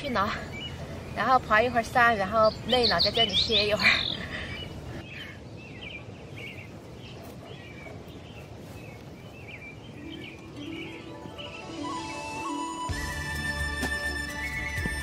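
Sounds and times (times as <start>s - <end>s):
small birds chirping: 0.0s - 12.9s
steady low background noise: 0.0s - 12.9s.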